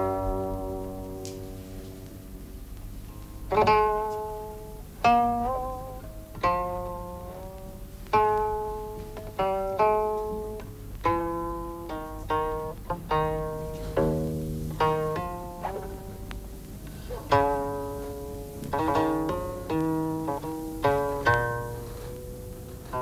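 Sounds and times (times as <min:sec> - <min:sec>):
plucked zither notes: 0:00.0 - 0:23.0.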